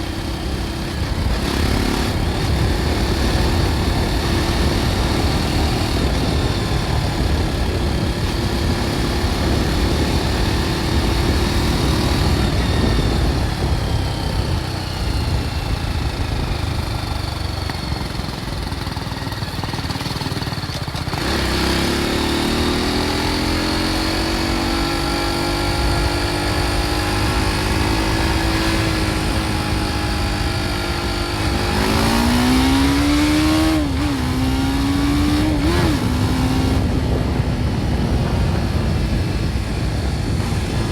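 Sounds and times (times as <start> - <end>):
wind rush: 0.0 - 19.3, 21.1 - 40.9
motorcycle engine while riding: 0.0 - 40.9.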